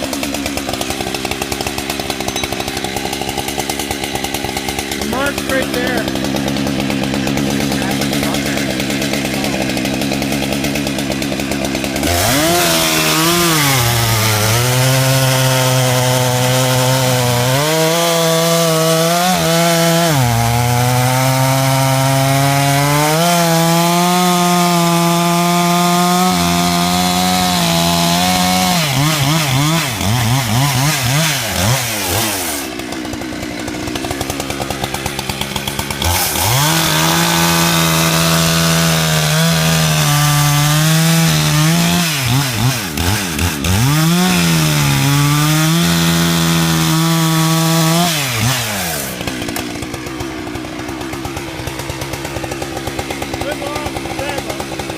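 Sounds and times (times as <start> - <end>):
chainsaw cutting through log: 0.0 - 54.9.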